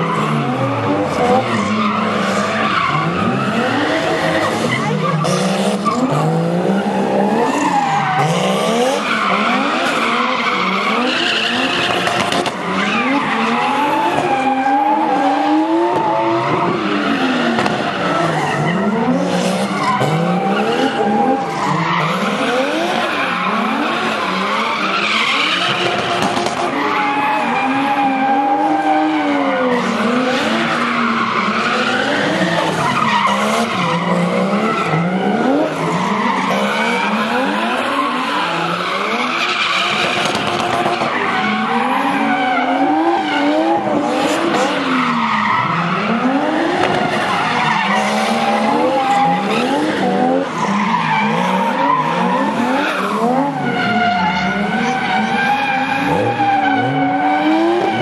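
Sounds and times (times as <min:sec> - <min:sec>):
car engines revving: 0:00.0 - 0:58.0
tyres skidding and squealing: 0:00.0 - 0:58.0.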